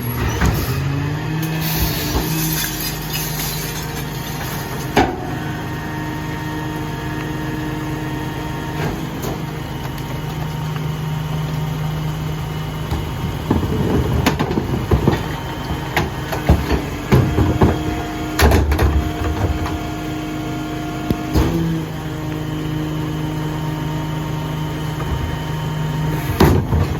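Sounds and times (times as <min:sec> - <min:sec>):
garbage truck idling: 0:00.0 - 0:26.9.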